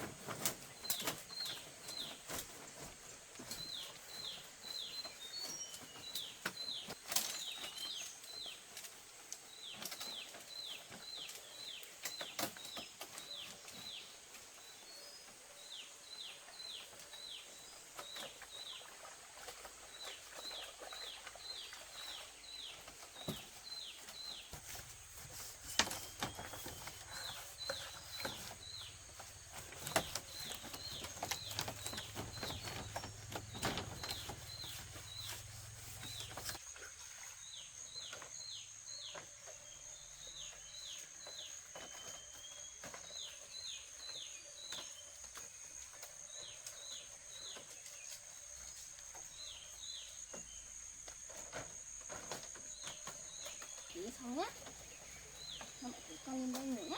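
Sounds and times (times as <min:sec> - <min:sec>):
birds chirping: 0:09.4 - 0:36.6, 0:37.4 - 0:56.9.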